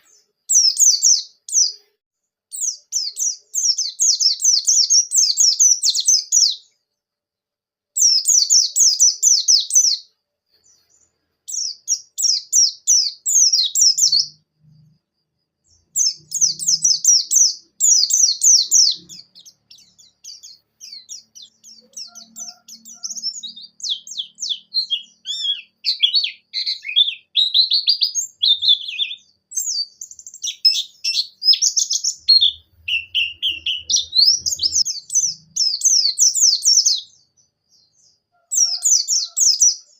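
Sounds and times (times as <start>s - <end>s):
bird twittering song: 0.0s - 1.9s, 2.5s - 7.0s, 8.0s - 39.9s.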